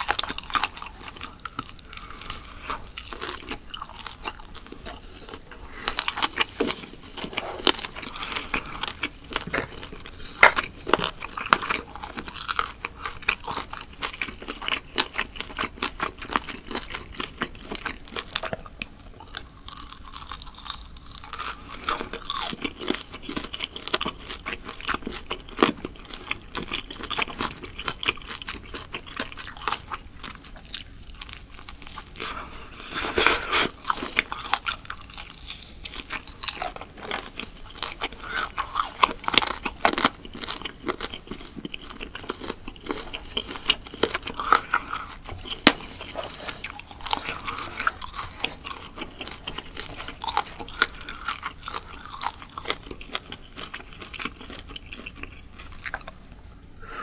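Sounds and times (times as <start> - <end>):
biting and chewing meat: 0.0 - 57.0.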